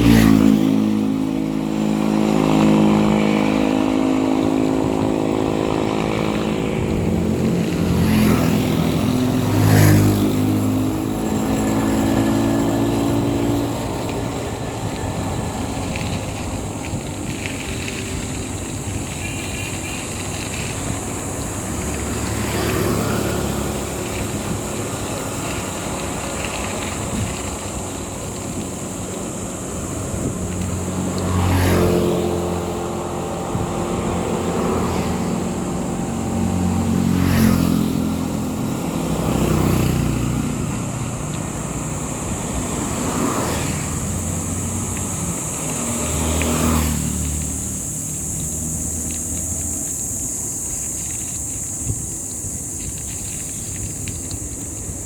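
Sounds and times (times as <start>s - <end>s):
road noise: 0.0s - 55.0s
vehicle engines revving and passing: 0.0s - 55.0s.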